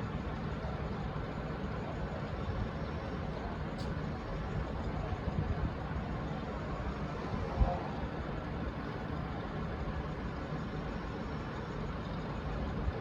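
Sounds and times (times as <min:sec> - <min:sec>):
diesel train idling: 0:00.0 - 0:13.0.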